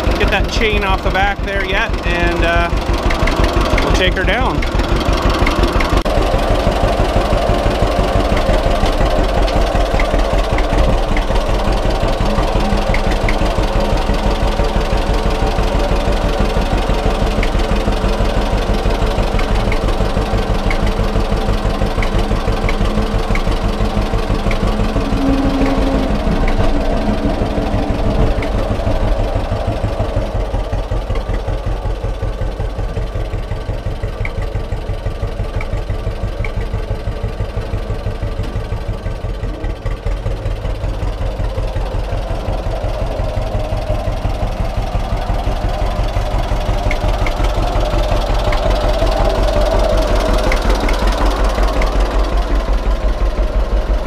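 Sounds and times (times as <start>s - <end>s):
tractor engine popping: 0.0s - 54.0s.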